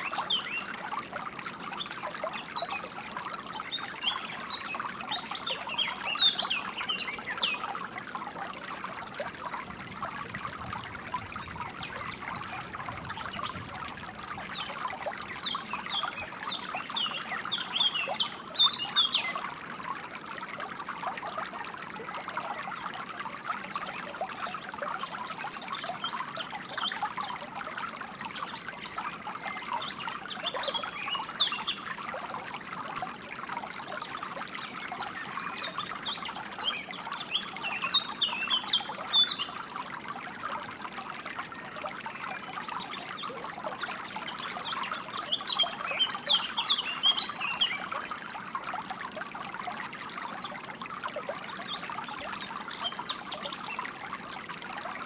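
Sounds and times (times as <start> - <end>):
small stream trickling: 0.0 - 55.0.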